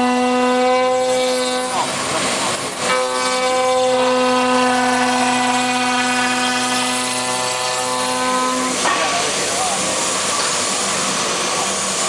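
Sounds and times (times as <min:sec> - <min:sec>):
hiss: 0:00.9 - 0:12.0.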